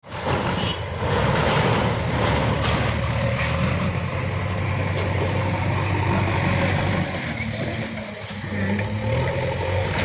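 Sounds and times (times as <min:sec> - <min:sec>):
bulldozer diesel engine droning: 0:00.0 - 0:10.0.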